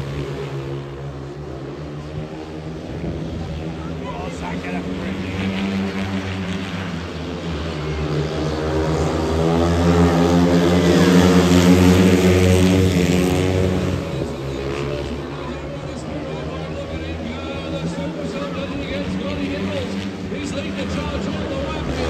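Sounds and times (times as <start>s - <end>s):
motorcycle engines racing: 0.0s - 22.0s.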